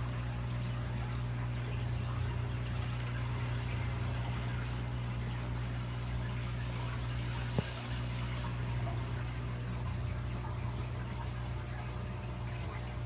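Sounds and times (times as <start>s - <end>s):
aquarium water bubbling: 0.0s - 13.0s
low steady hum: 0.0s - 13.0s.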